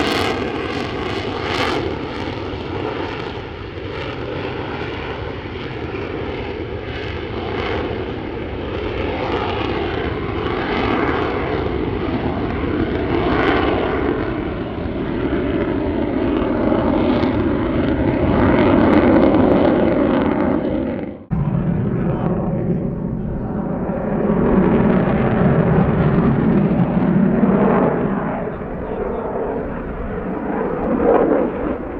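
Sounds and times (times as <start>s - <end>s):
jet engine roar: 0.0s - 31.9s.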